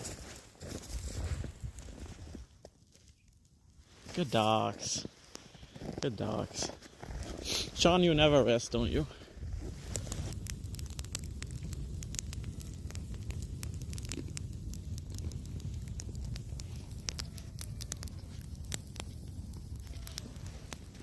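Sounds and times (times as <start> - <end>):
campfire crackling and popping: 2.4 - 21.0.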